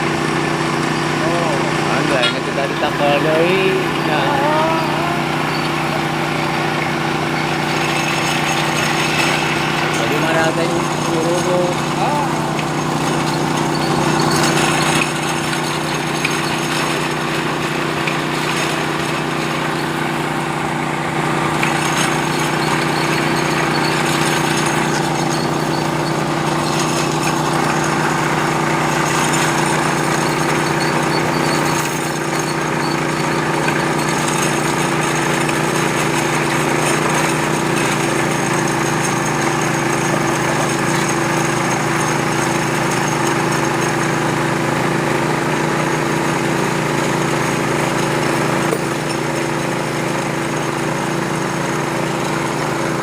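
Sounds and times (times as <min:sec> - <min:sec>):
drilling machine engine drone: 0:00.0 - 0:53.0.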